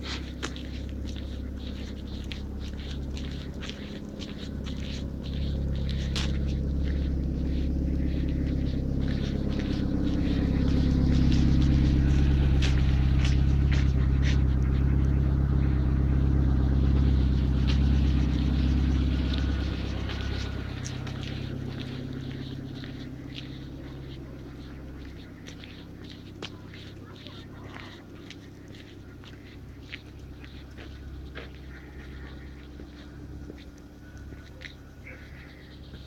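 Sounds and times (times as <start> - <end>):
footsteps clicking and crackling: 0.0 - 36.0
vehicle engine rumble: 0.0 - 36.0.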